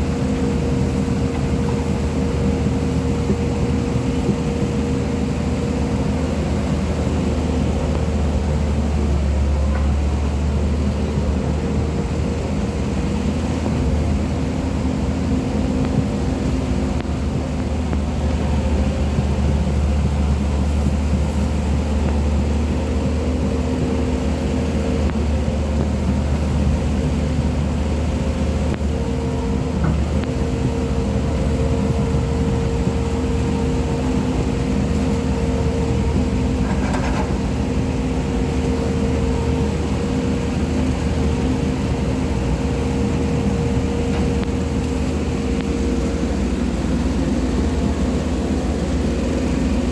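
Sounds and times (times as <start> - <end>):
diesel engine running steadily: 0.0 - 49.9.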